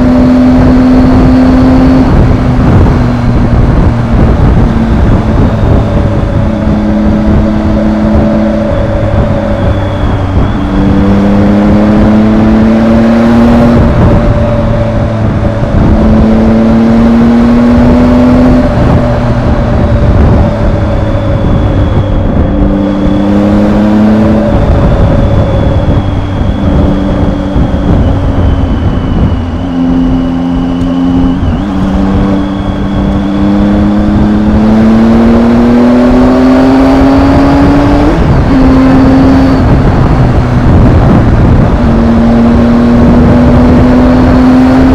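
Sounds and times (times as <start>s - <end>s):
motorcycle engine accelerating: 0.0s - 44.9s
road and wind noise: 0.0s - 44.9s.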